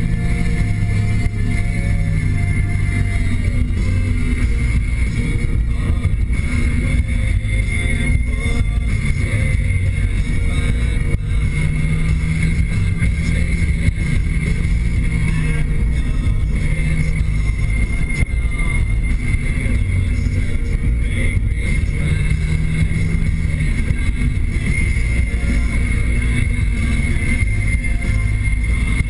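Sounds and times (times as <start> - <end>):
car engine drone: 0.0 - 29.0
steady hum: 0.0 - 29.0
tyre and road noise: 0.0 - 29.0.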